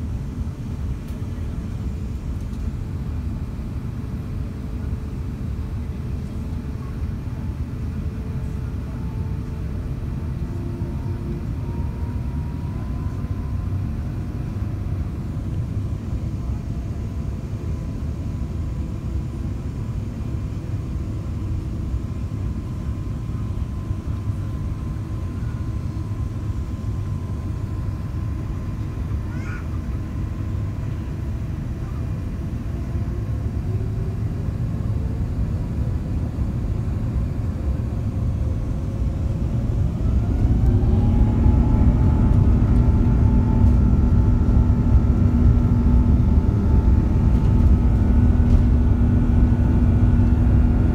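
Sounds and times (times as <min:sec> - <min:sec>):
jet engine whine: 0:00.0 - 0:50.9
jet engines rumbling: 0:00.0 - 0:50.9.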